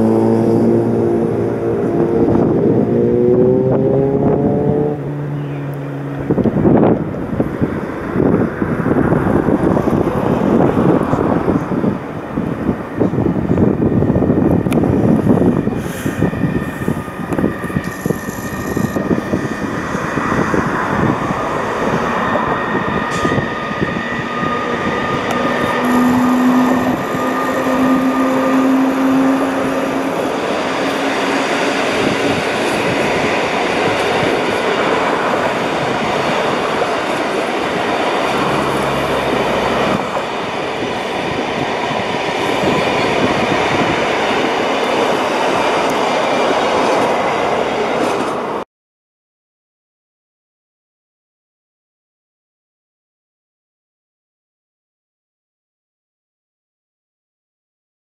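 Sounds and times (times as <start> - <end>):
train running over tracks: 0.0 - 48.6.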